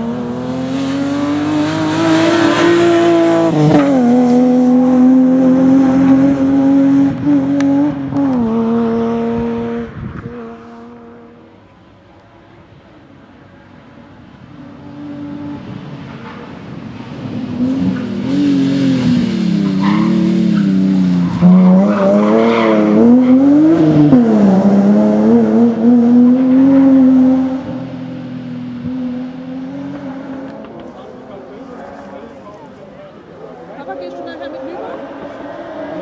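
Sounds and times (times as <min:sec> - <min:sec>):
rally car engine revving: 0:00.0 - 0:11.4, 0:14.6 - 0:36.0.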